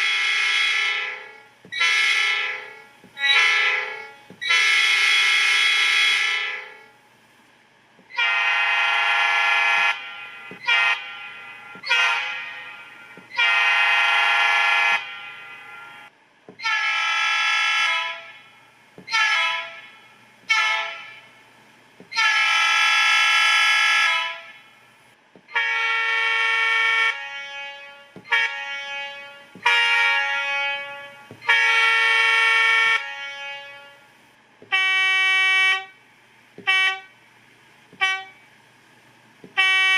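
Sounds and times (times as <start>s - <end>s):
locomotive air horn blasts: 0.0s - 7.0s, 8.1s - 21.4s, 22.0s - 24.8s, 25.5s - 36.0s, 36.6s - 37.2s, 37.9s - 38.5s, 39.5s - 39.9s.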